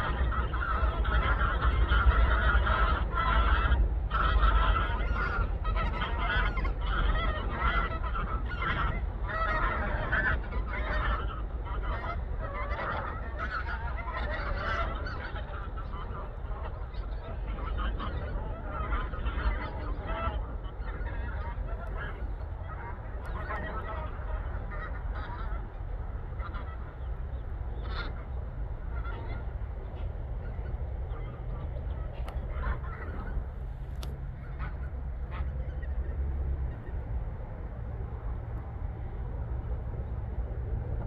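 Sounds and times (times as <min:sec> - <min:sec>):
geese honking: 0:00.0 - 0:39.8.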